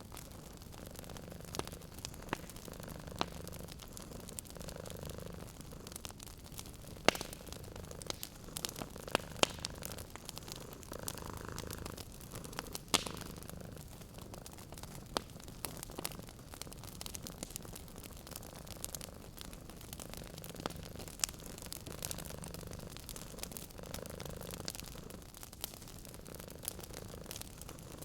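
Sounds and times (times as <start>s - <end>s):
cat purring: 0.0s - 28.0s
wood fire crackling and popping: 0.0s - 28.0s.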